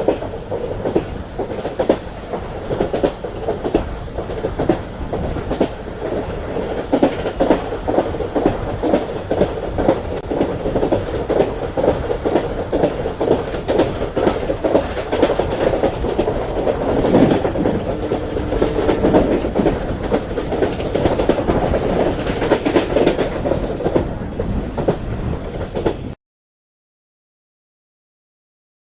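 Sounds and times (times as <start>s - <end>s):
train wheels rumbling on track: 0.0s - 26.2s
wheels clicking over rail joints: 0.0s - 26.2s.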